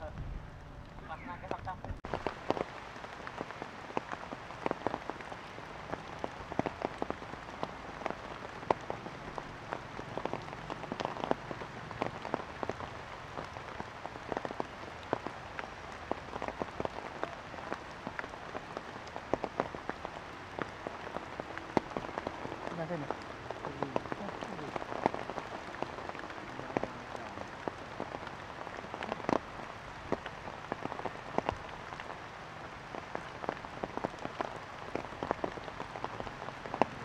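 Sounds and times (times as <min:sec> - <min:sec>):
rain falling: 0:00.0 - 0:37.0
raindrop ticks: 0:00.0 - 0:37.0.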